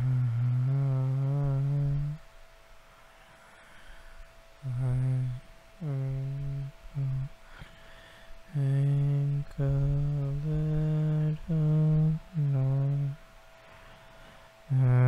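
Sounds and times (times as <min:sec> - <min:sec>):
man humming a slow melody: 0:00.0 - 0:02.4, 0:04.6 - 0:15.0
faint steady tone: 0:00.0 - 0:15.0.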